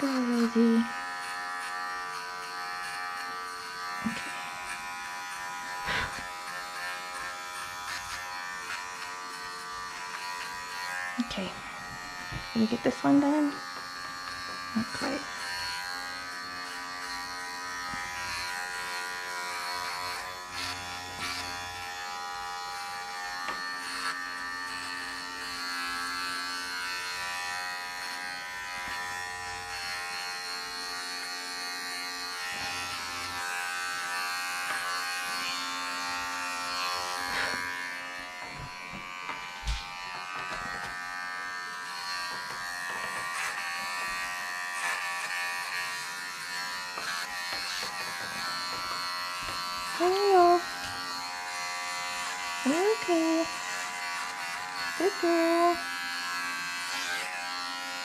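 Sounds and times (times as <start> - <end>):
electric clippers buzzing: 0.0 - 58.0.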